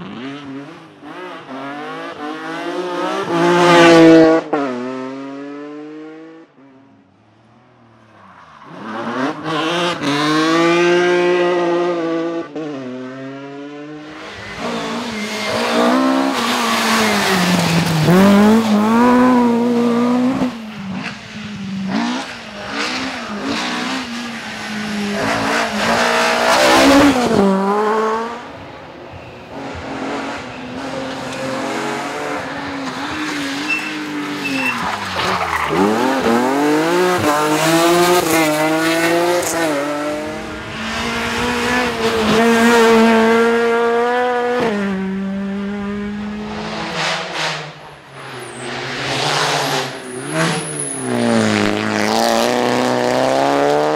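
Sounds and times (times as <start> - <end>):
rally car engines revving hard: 0.0 - 6.4, 8.7 - 28.5, 29.5 - 53.9.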